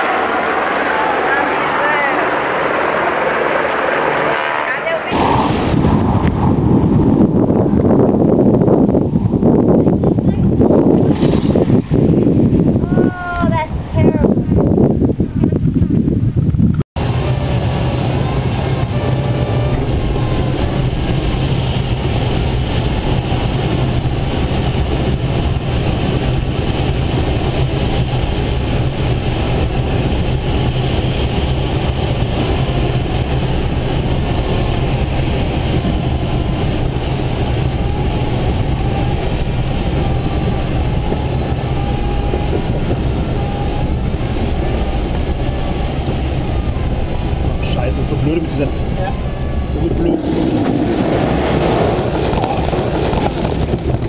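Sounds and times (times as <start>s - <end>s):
airflow rushing in cockpit: 0.0s - 54.0s
constant low hum: 0.0s - 54.0s.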